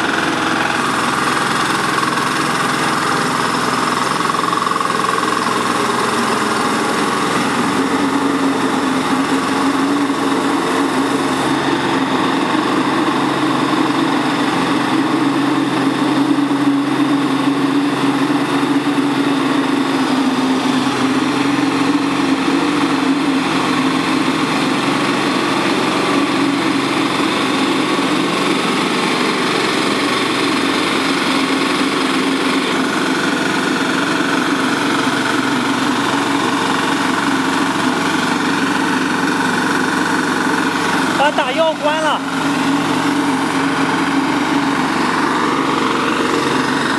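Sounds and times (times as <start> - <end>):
diesel engine running: 0.0 - 46.9
fan blasting spray: 0.0 - 46.9.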